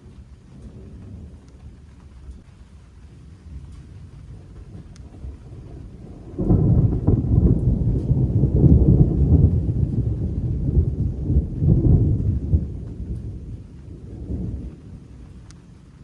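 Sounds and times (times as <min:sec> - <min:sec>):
thunder rolling: 0:00.0 - 0:16.0.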